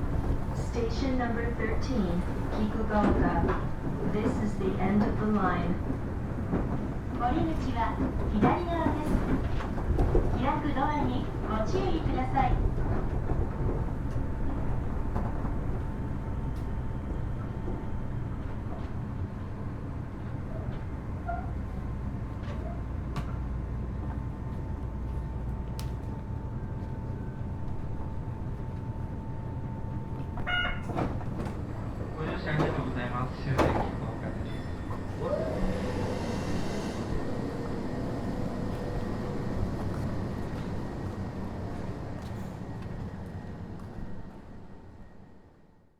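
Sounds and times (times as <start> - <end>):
low hum of train equipment: 0.0 - 45.9.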